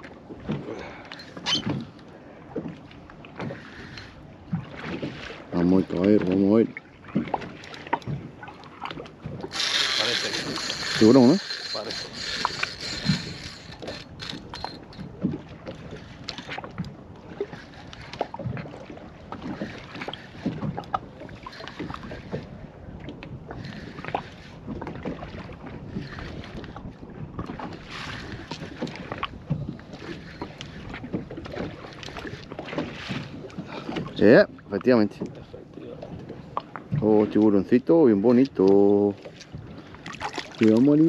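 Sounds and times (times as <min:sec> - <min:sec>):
water sloshing against boat hull: 0:00.0 - 0:41.0.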